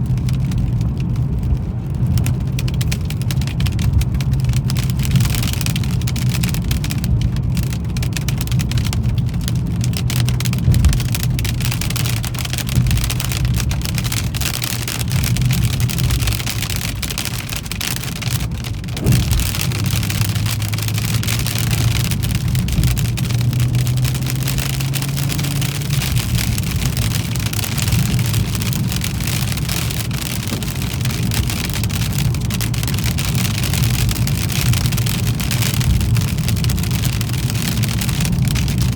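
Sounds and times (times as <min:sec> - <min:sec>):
car engine hum: 0:00.0 - 0:38.9
hail pattering on car: 0:00.0 - 0:38.9
tyre noise on wet road: 0:00.0 - 0:38.9.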